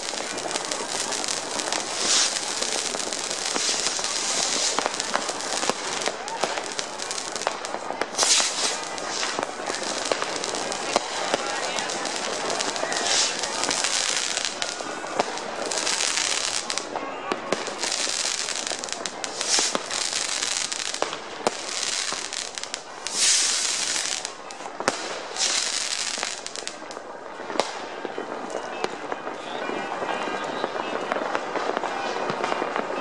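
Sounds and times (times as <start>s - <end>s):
firework hissing bursts: 0.0s - 26.9s
fireworks crackling and banging: 0.0s - 33.0s.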